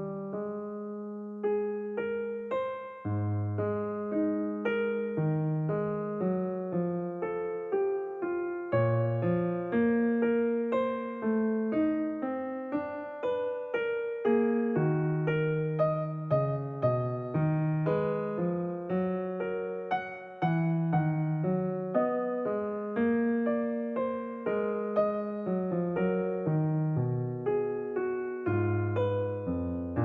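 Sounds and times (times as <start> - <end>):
slow piano melody: 0.0 - 30.0.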